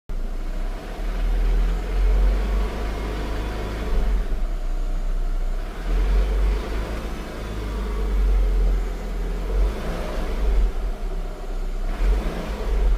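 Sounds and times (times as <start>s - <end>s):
car engine running: 0.1s - 12.9s.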